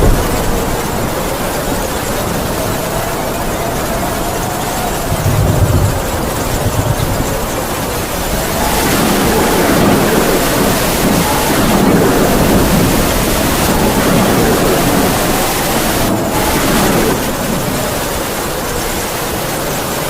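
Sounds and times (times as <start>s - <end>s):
heavy rain: 0.0s - 20.0s
howling wind: 0.0s - 20.0s.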